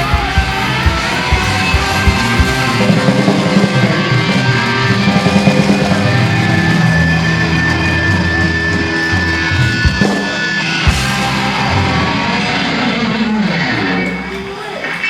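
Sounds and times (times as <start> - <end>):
distorted electric guitar: 0.0 - 15.0
punk rock band playing: 0.0 - 15.0.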